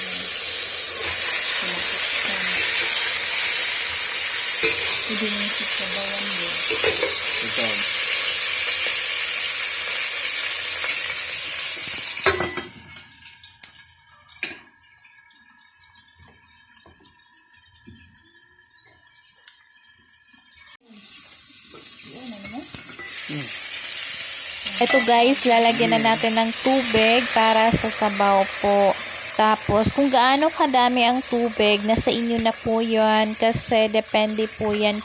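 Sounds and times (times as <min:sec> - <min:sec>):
chicken sizzling in a pot: 0:00.0 - 0:35.0.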